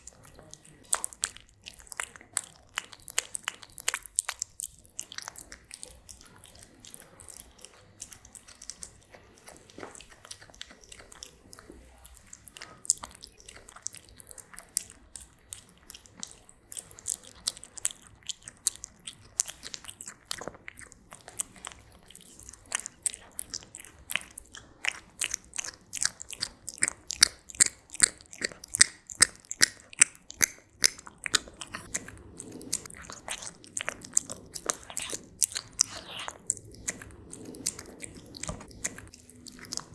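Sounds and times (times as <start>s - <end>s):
cat crunching food: 0.0s - 39.9s.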